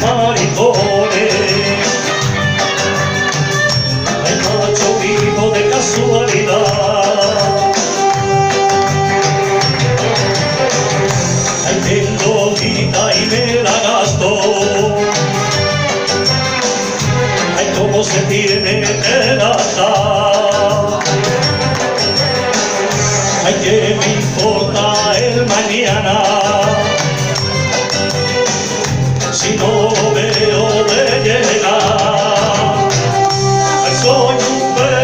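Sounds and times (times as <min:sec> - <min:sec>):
rumba music over speakers: 0:00.0 - 0:35.0.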